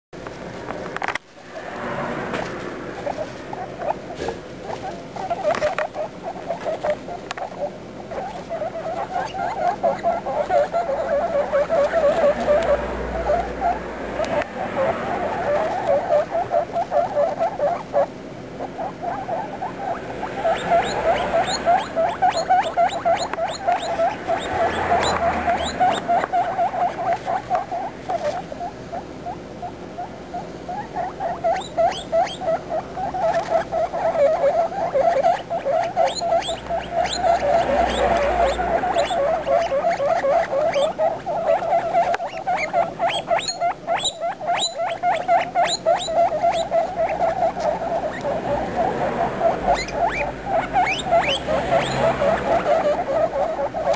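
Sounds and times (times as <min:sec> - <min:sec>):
baby guinea pigs squeaking: 0:00.9 - 0:53.9.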